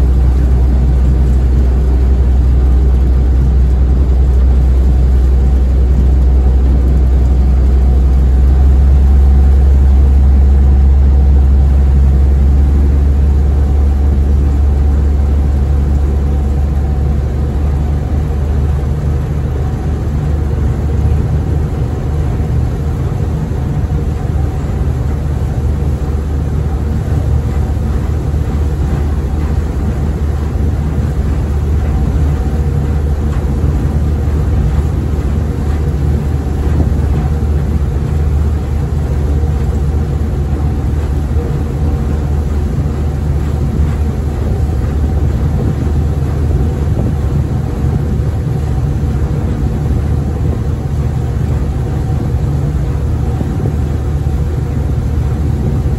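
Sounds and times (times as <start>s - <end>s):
diesel engine droning: 0.0s - 55.9s.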